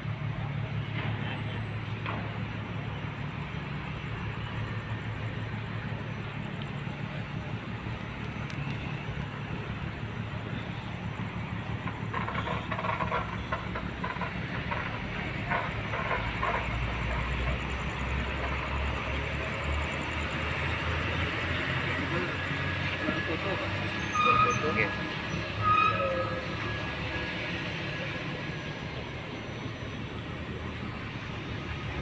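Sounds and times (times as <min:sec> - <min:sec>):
low engine drone: 0:00.0 - 0:32.0.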